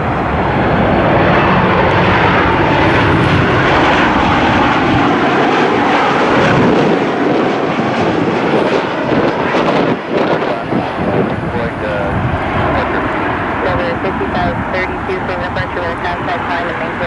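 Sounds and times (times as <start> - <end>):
jet engines passing: 0.0 - 17.0.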